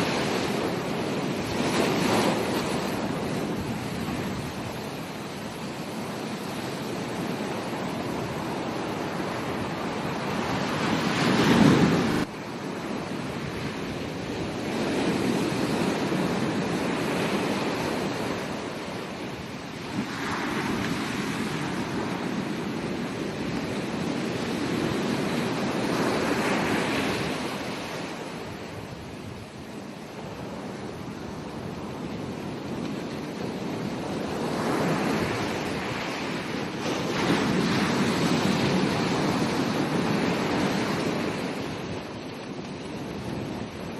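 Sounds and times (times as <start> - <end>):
ocean waves breaking on beach: 0.0 - 43.9.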